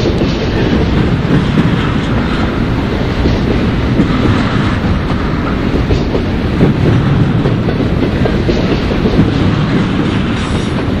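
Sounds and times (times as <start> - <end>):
freight train rolling past: 0.0 - 11.0
train wheel clicks: 0.0 - 11.0.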